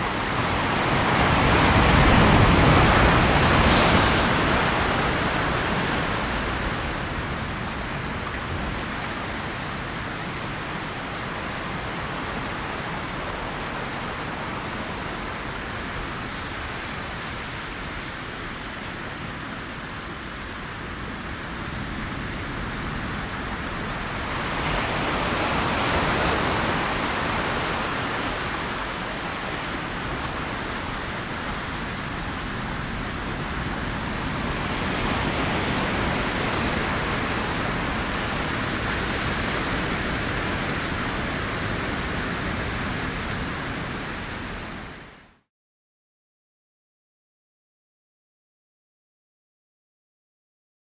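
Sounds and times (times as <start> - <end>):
ocean waves breaking on shore: 0.0 - 45.3.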